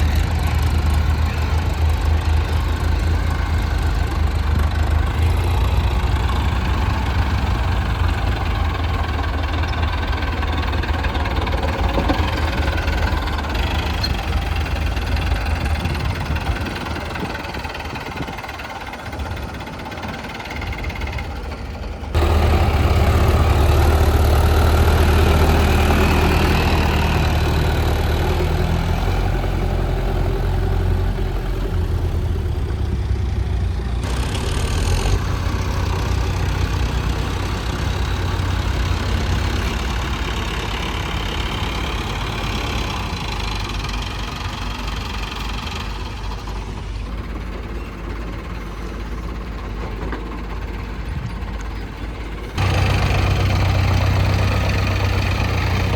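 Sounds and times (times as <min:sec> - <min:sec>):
heavy diesel machinery engines: 0:00.0 - 0:55.9.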